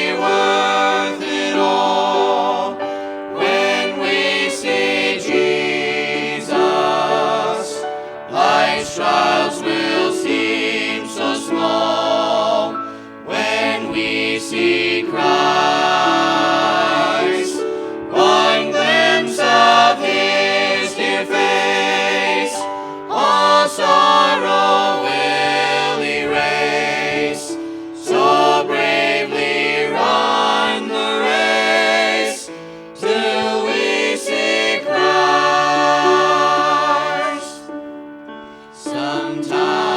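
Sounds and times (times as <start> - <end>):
group singing gospel in harmony: 0.0 - 39.9.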